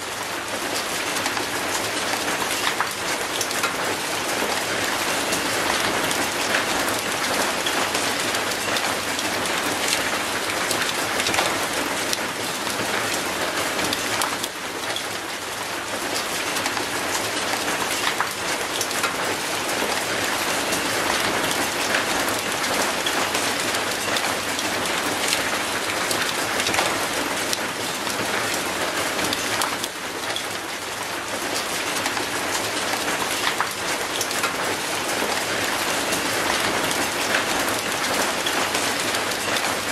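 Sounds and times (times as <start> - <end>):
rain on concrete and metal gate: 0.0 - 39.9.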